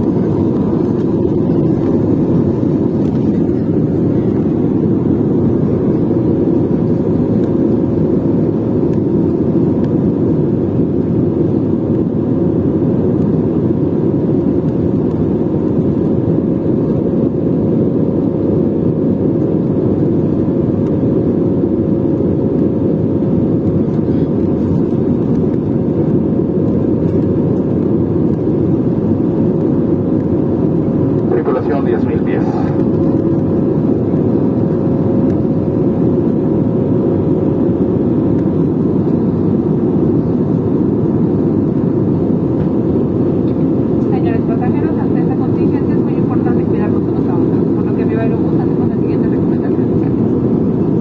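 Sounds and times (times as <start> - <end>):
jet engines rumbling: 0.0 - 51.0
steady hum: 0.0 - 51.0.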